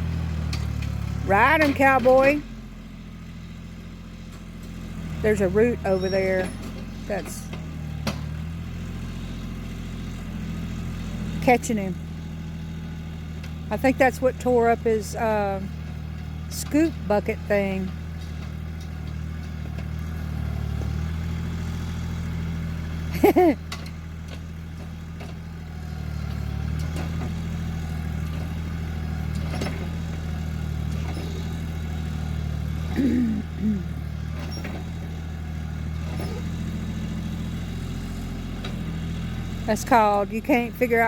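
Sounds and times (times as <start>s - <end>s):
tractor diesel engine: 0.0s - 41.0s.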